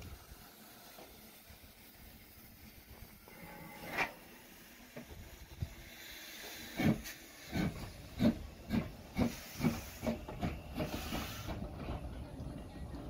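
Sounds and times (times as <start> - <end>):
steam hissing: 0.0 - 11.8
steam locomotive exhaust chuffs: 0.0 - 13.0.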